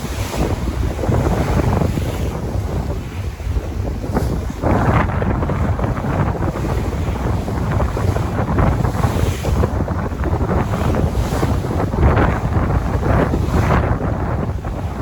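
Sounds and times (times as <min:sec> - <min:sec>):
sea waves washing in: 0:00.0 - 0:15.0
wind buffeting the microphone: 0:00.0 - 0:15.0.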